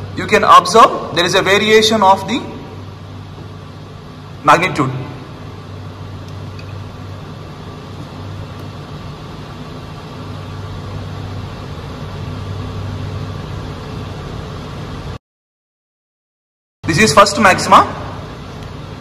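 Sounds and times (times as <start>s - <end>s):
lab equipment humming and hissing: 0.0s - 15.2s, 16.8s - 19.0s.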